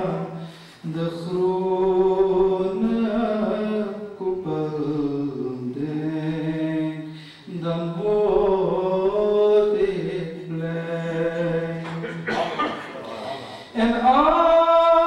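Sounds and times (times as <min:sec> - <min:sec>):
man chanting unaccompanied: 0:00.0 - 0:15.0.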